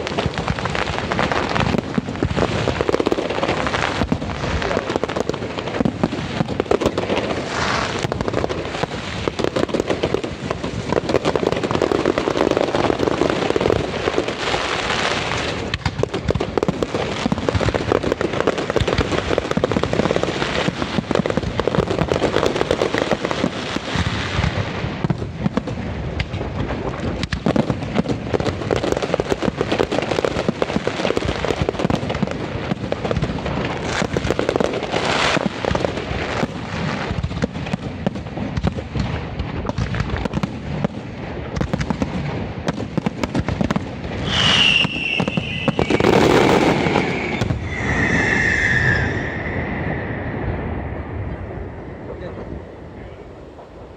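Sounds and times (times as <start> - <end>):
fireworks crackling and banging: 0.0 - 53.9
high whistling fireworks: 0.0 - 53.9.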